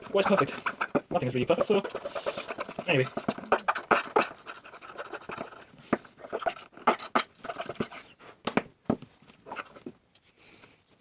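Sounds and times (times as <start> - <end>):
scratching and rubbing strokes: 0.0 - 8.4, 9.3 - 11.0.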